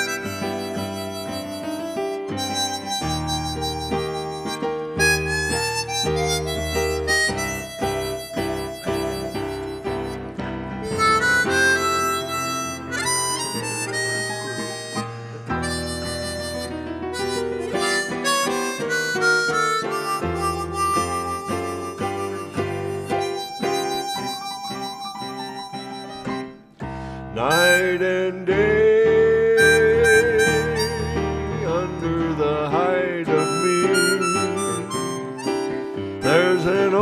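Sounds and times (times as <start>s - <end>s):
accompanying chords: 0.0s - 37.0s
harmonica melody: 0.0s - 37.0s.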